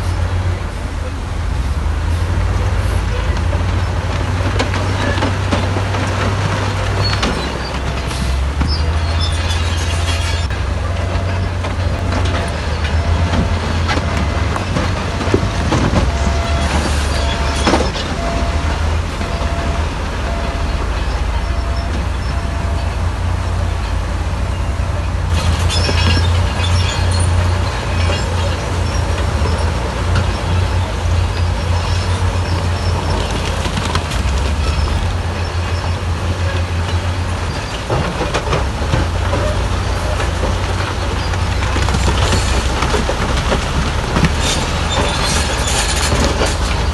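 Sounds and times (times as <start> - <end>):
crawler tracks clanking and squealing: 0.0 - 46.9
diesel engine rumbling: 0.0 - 46.9.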